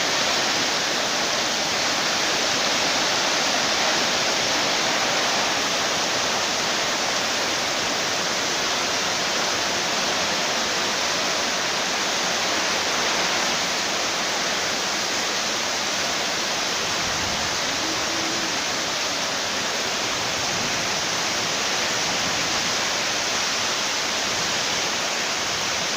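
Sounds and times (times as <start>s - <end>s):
rain on a tin roof: 0.0s - 25.9s.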